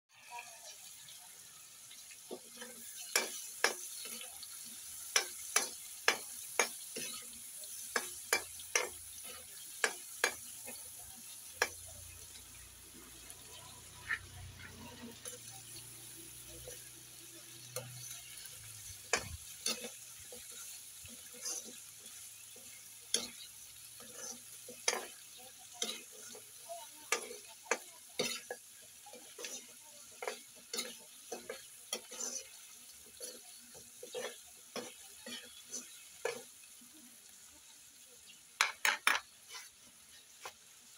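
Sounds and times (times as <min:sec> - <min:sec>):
food sizzling: 0:00.1 - 0:40.9
metal spatula scraping a wok: 0:04.9 - 0:36.5, 0:38.8 - 0:40.6.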